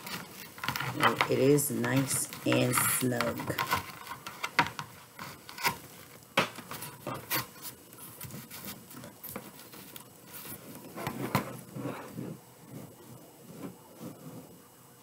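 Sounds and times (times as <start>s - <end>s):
rubbing and rustling: 0.0s - 14.8s.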